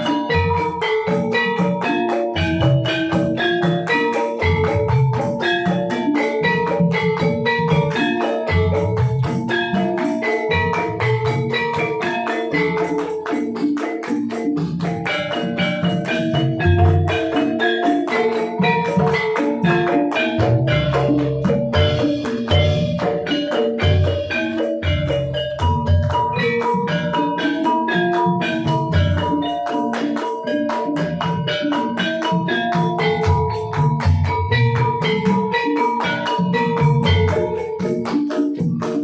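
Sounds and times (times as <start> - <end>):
metallophones struck in patterns: 0.0 - 39.0.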